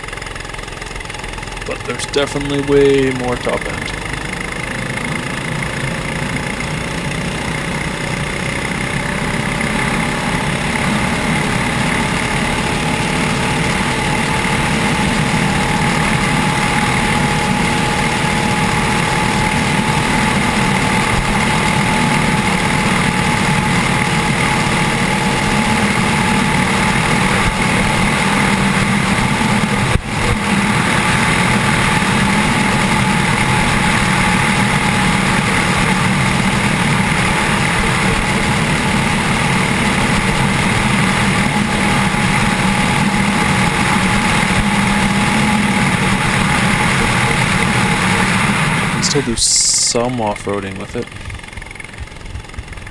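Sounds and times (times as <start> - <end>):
small engine running flat out: 0.0 - 52.9.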